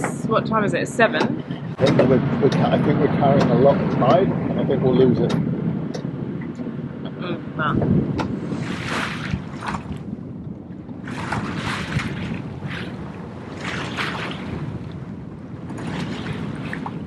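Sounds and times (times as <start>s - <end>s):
water rushing against hull: 0.0s - 17.0s
wind buffeting microphone: 0.0s - 17.0s.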